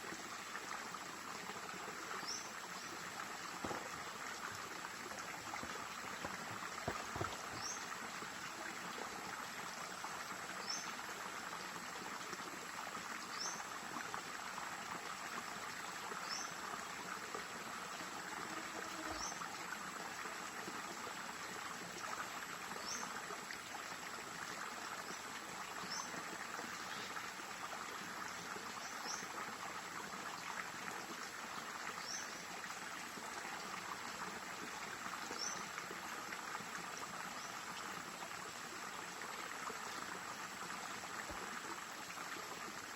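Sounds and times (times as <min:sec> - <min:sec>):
stream water flowing: 0:00.0 - 0:42.9.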